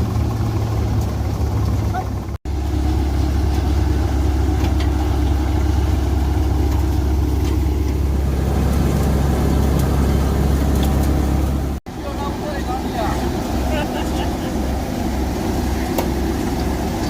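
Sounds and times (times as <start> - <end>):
diesel tractor engine humming: 0.0 - 17.0.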